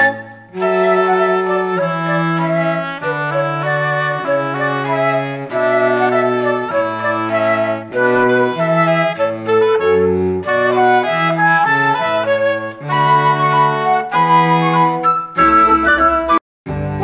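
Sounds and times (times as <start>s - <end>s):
instrumental melody over bass line: 0.0s - 17.0s.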